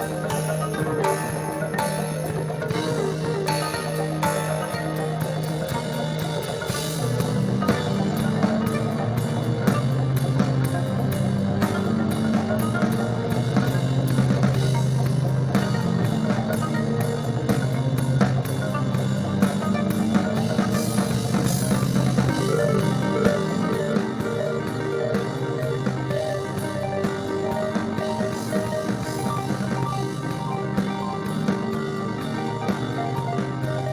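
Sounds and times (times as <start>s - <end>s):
drum kit beating: 0.0s - 33.9s
sustained bass notes: 0.0s - 33.9s.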